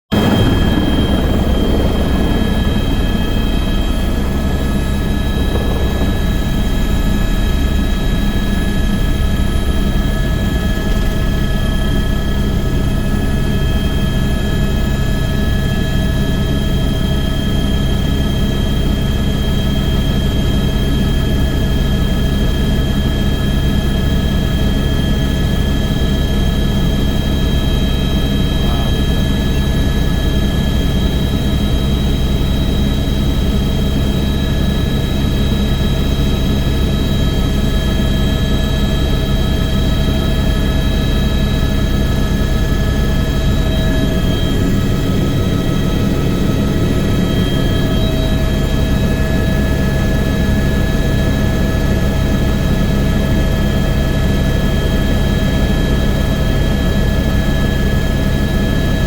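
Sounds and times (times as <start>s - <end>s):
helicopter rotor and engine rumble: 0.1s - 59.0s
high turbine whine: 0.1s - 59.0s.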